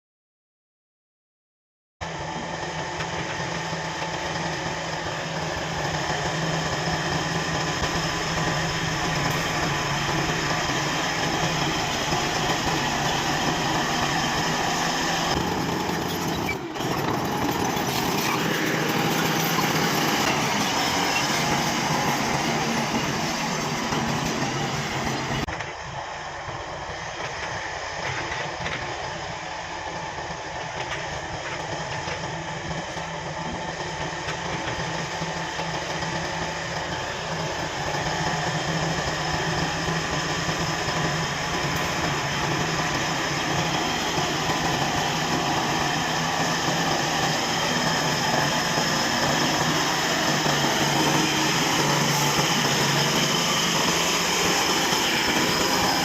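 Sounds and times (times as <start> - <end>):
bulldozer diesel engine running: 2.0 - 56.0.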